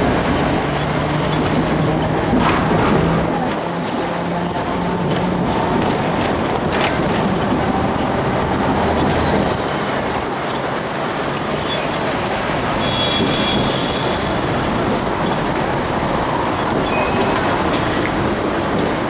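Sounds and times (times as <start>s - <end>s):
tram wheels rumbling: 0.0s - 19.0s
wind noise: 0.0s - 19.0s.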